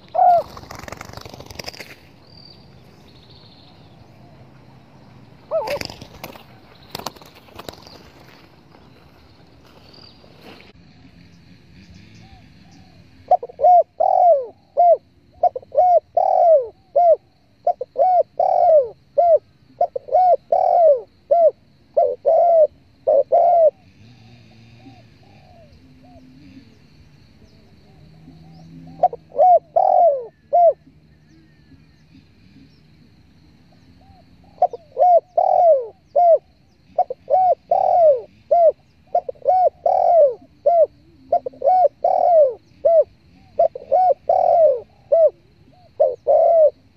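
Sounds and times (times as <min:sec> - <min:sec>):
dove cooing: 0:00.0 - 0:01.9, 0:05.4 - 0:08.3, 0:11.8 - 0:33.0, 0:33.7 - 0:46.9.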